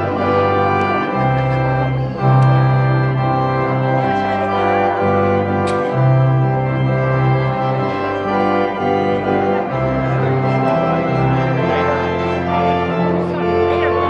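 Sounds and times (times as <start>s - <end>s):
slow instrumental music: 0.0s - 14.0s.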